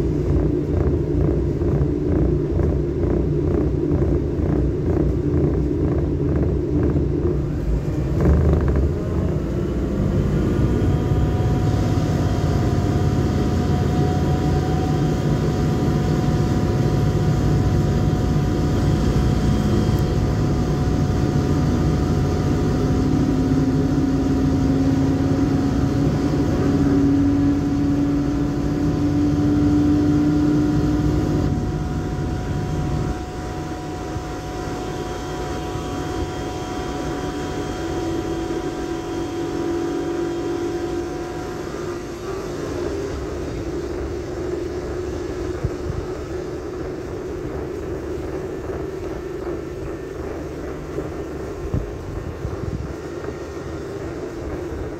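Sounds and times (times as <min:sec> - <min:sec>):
train motor whine: 0:00.0 - 0:54.9
train wheels rumbling on rail: 0:00.0 - 0:54.9.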